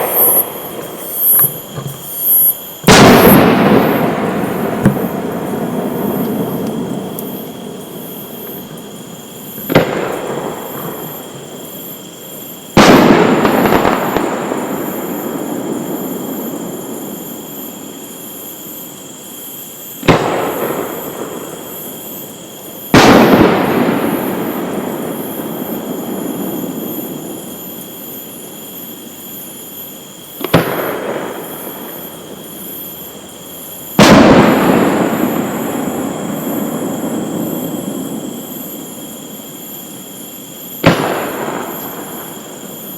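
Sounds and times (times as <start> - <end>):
fireworks bangs: 0.0 - 17.4, 20.0 - 28.0, 30.3 - 42.9.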